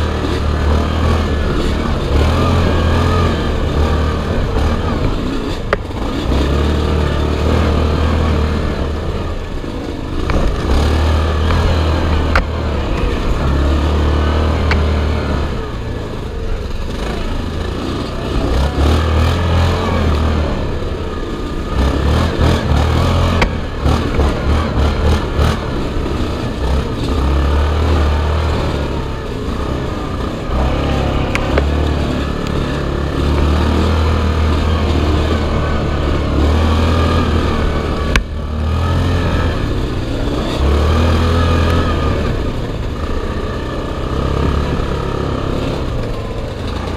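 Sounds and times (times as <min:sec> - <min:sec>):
quad engine revving: 0:00.0 - 0:46.9.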